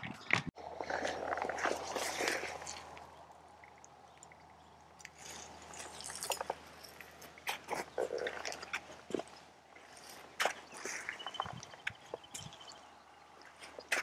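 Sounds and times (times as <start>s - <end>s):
footsteps on dry dirt and grass: 0.7s - 3.3s, 5.1s - 14.0s.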